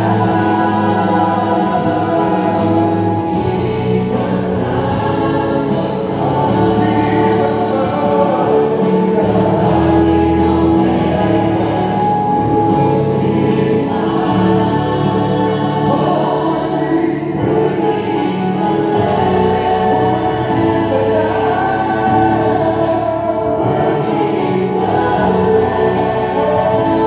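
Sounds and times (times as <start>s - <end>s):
group singing gospel through speakers: 0.0s - 27.0s.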